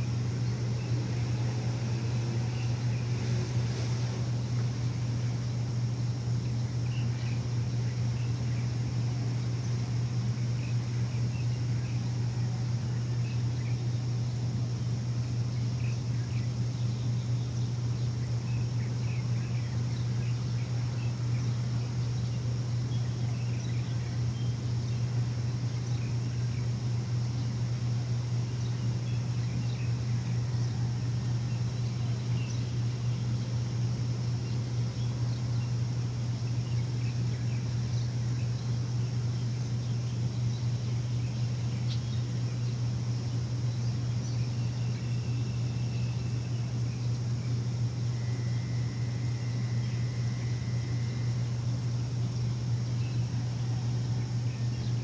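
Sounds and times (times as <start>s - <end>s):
faint bird chirps: 0.0s - 55.0s
low machine hum: 0.0s - 55.0s.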